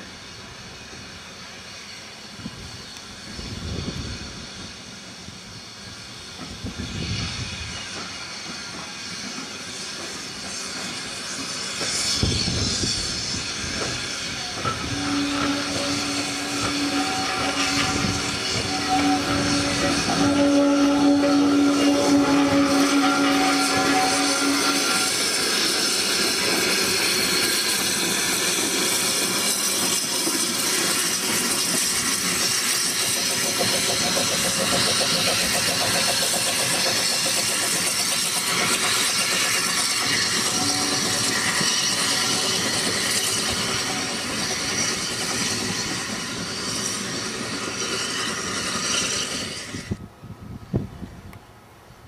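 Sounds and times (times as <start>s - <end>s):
steam hissing: 0.0s - 50.0s
steam locomotive running: 0.0s - 50.2s.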